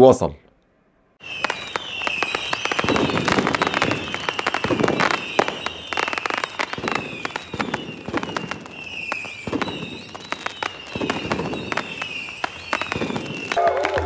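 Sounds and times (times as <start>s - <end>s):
fireworks crackling pops: 1.2s - 14.0s
fireworks falling whistles: 1.2s - 14.0s.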